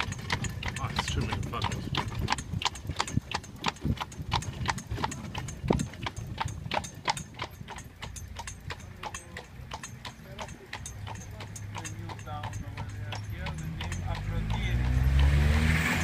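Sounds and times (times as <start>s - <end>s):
hooves clip-clopping on stone: 0.0s - 15.7s.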